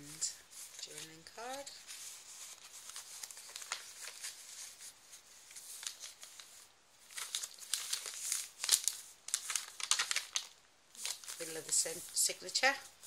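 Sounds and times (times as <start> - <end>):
paper pages rustling and crinkling: 0.0 - 13.0.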